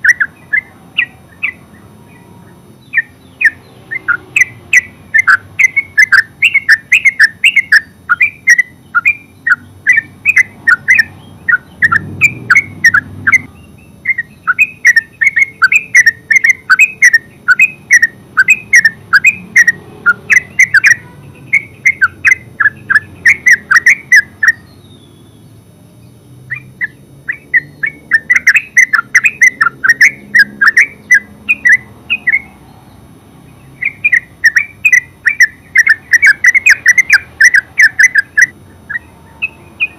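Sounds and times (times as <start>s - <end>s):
bird chattering call: 0.0s - 25.5s, 26.5s - 32.7s, 33.6s - 39.9s.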